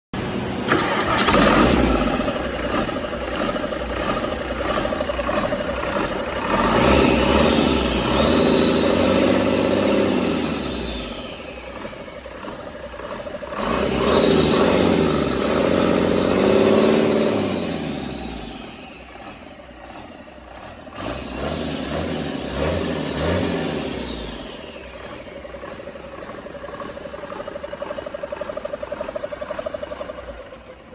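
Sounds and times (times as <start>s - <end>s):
engine revving and idling: 0.2s - 30.9s.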